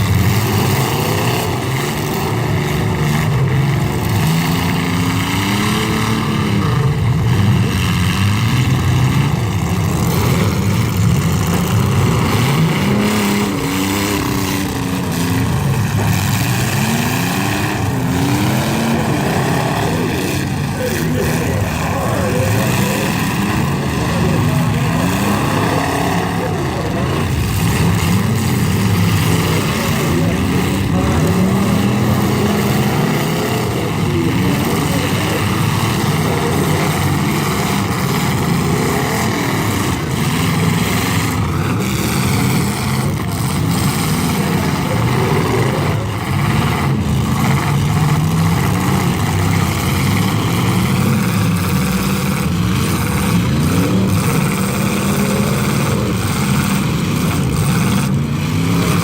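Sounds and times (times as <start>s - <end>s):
many car engines revving: 0.0s - 59.0s
vehicles crashing bangs: 0.0s - 59.0s.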